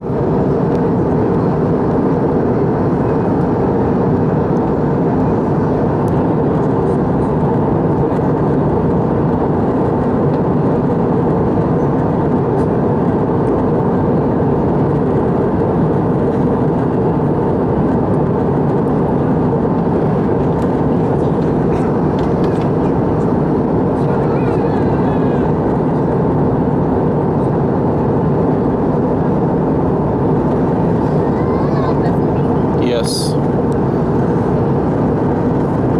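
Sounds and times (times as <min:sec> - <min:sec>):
airplane cabin engine drone: 0:00.0 - 0:35.9.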